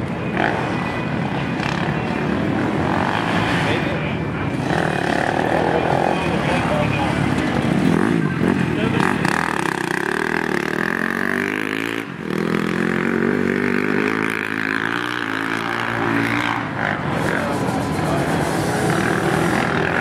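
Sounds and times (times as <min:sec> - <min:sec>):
motocross bike engine revving: 0:01.4 - 0:20.0.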